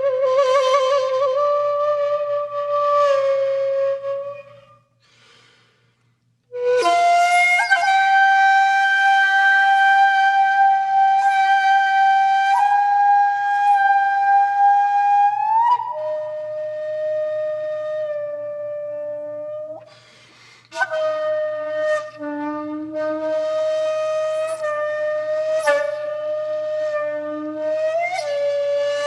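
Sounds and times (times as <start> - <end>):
flute playing long held notes: 0.0 - 4.9, 6.5 - 20.0, 20.7 - 29.0.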